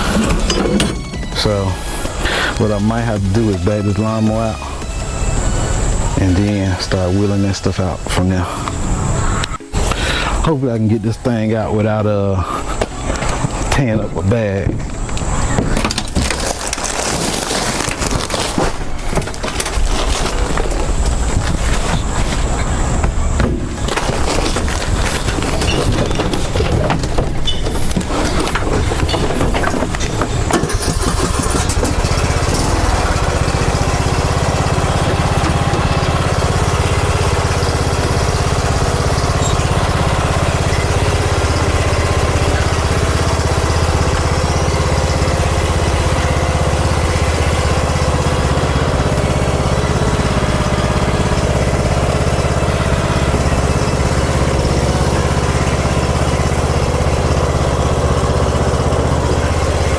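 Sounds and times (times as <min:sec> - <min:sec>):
lawn mower engine starting: 0:00.0 - 0:59.9.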